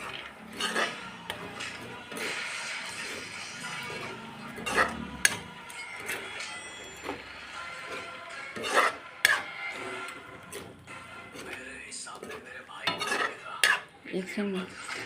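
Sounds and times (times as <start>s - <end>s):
spoon scraping a pan: 0.0s - 15.0s.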